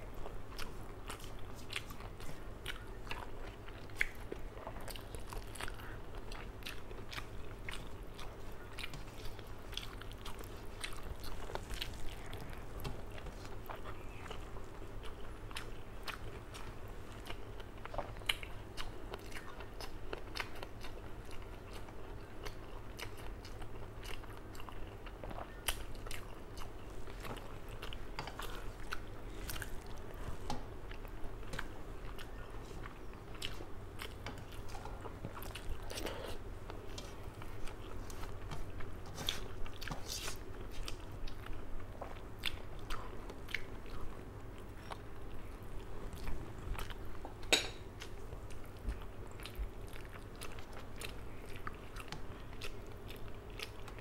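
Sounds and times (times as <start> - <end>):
wet chewing mouth sounds: 0.1 - 54.0.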